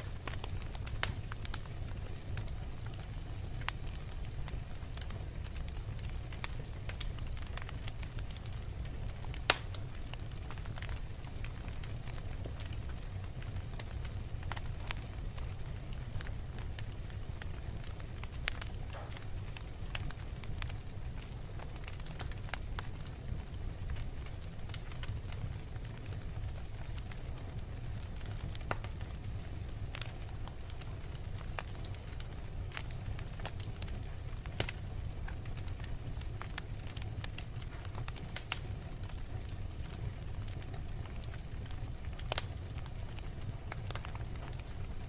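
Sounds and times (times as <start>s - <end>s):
crackles and pops of burning logs: 0.0s - 45.0s
low rumble of fire flames: 0.0s - 45.0s.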